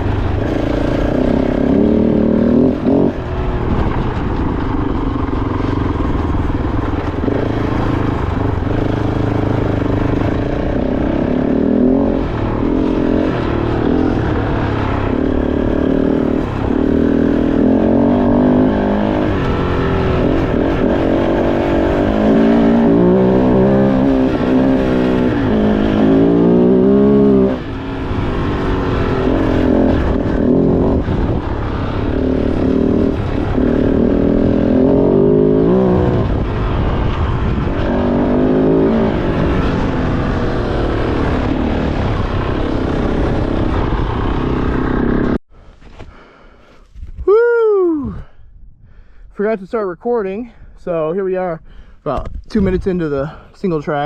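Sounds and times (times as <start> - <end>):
motorcycle engine revving: 0.0 - 45.4.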